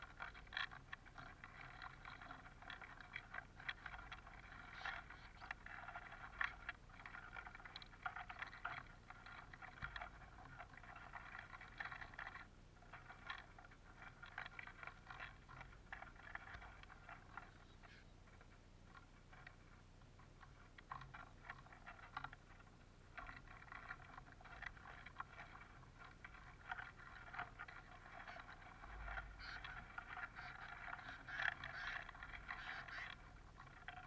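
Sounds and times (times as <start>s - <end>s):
birds pecking seeds: 0.0s - 34.0s.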